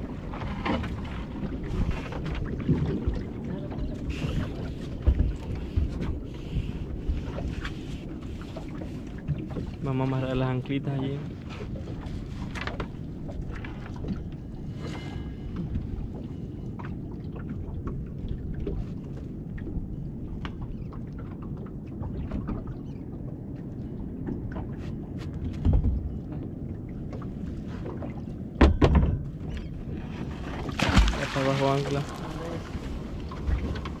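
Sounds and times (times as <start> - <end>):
water lapping around boat: 0.0 - 34.0
wind: 0.0 - 34.0.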